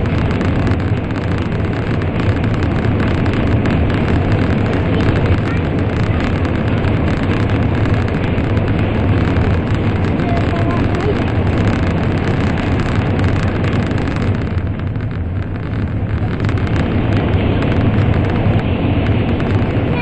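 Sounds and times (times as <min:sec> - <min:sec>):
low hum: 0:00.0 - 0:20.0
train rumbling in tunnel: 0:00.0 - 0:20.0.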